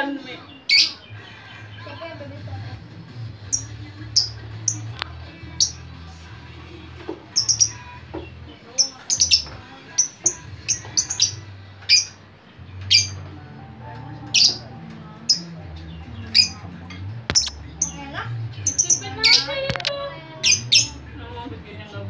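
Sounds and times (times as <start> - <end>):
lovebird chirping: 0.4 - 1.8, 3.4 - 5.9, 7.3 - 21.1.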